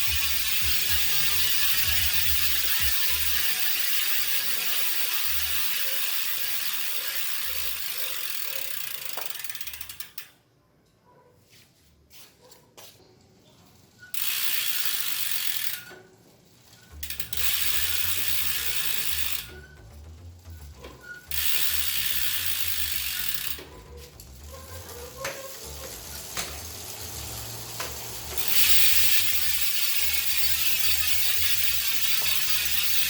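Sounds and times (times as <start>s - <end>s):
bicycle freehub ratchet buzzing: 0.0s - 10.4s, 14.0s - 33.0s.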